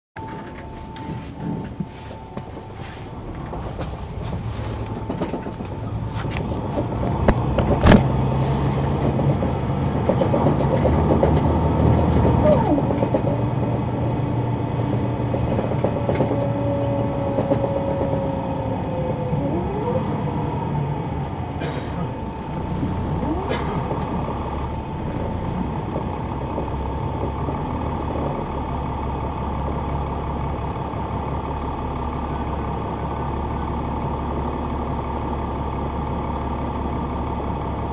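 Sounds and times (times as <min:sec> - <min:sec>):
bus diesel engine drone: 0:00.2 - 0:37.9.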